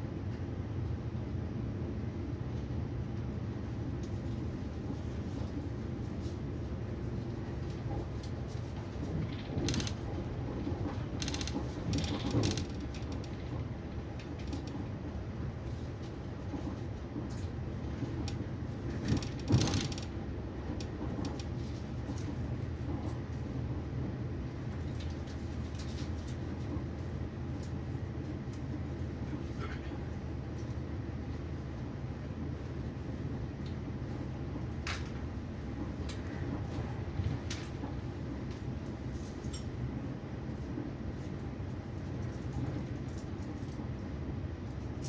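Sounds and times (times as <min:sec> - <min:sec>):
train rumble inside coach: 0:00.0 - 0:45.0.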